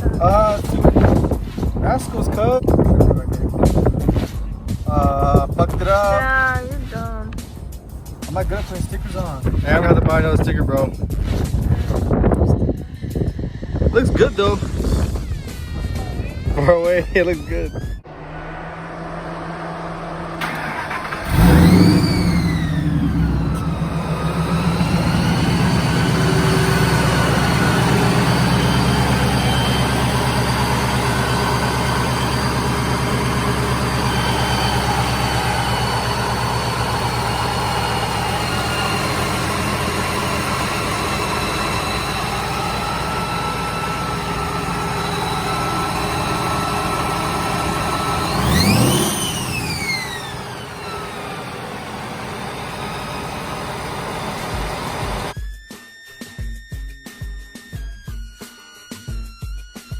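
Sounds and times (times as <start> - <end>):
car engine idling: 0.0 - 55.4
supercharger whine: 7.3 - 55.4.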